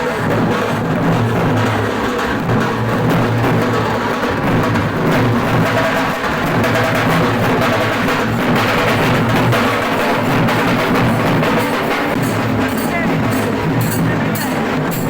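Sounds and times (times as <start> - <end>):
music with drumming and percussion: 0.0 - 15.0.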